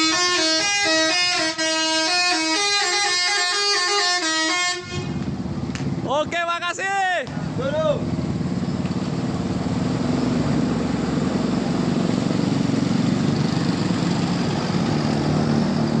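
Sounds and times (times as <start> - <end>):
bus engine running: 0.0 - 6.6, 7.2 - 16.0.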